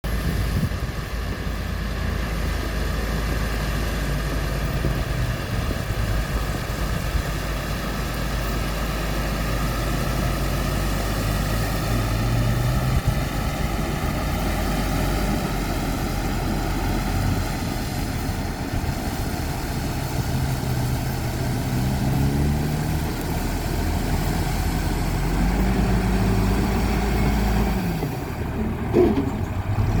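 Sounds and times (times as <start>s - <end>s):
heavy machinery diesel engine: 0.0s - 30.0s.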